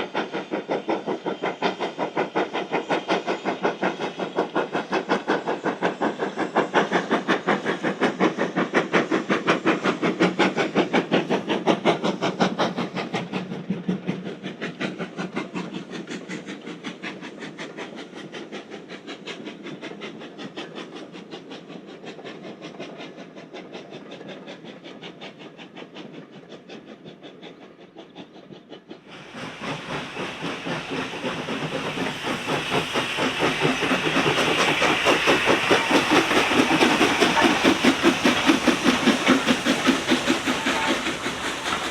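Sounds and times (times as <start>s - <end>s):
steam hiss: 0.0s - 41.9s
steam locomotive exhaust beating: 0.0s - 41.9s.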